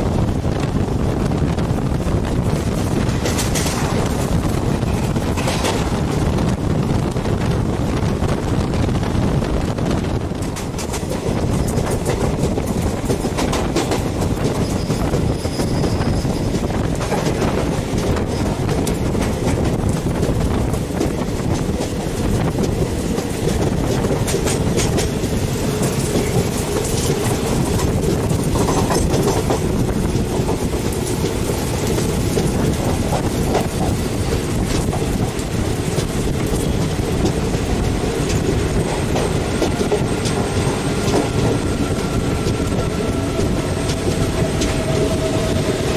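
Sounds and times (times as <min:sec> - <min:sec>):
train rumble: 0:00.0 - 0:45.9
train wheels clattering on rails: 0:00.0 - 0:45.9.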